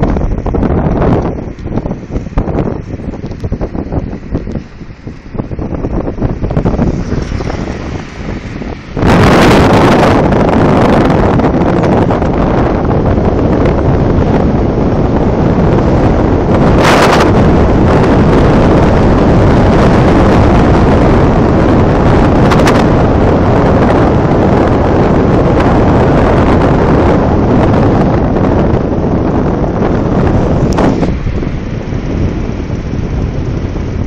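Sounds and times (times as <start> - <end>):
road and engine noise: 0.0 - 34.0
wind buffeting microphone: 0.0 - 34.0.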